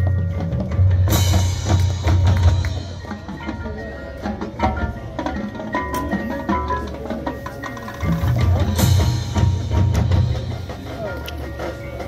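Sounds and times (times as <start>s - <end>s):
mallet percussion: 0.0s - 12.0s
marching band playing: 0.0s - 12.0s.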